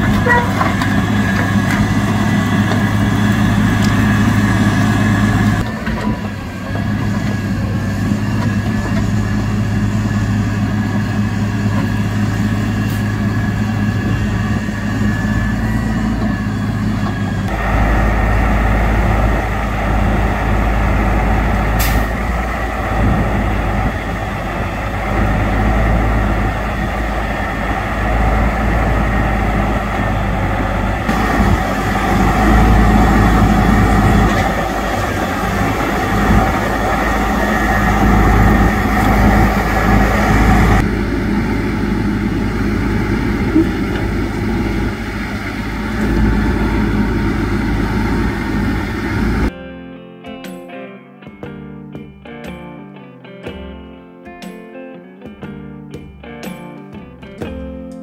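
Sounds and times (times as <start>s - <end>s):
truck diesel engine running: 0.0s - 49.5s.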